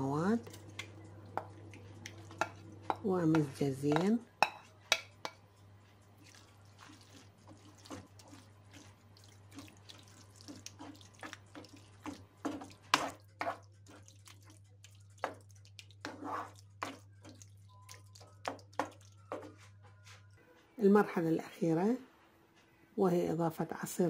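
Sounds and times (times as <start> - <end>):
wooden spoon stirring wet sauce: 0.0 - 20.3.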